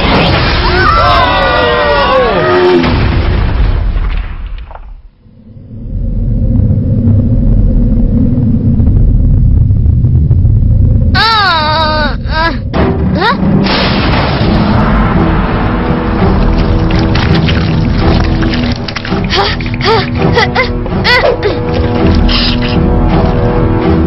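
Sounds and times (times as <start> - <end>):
deep rumble: 2.8 - 24.0.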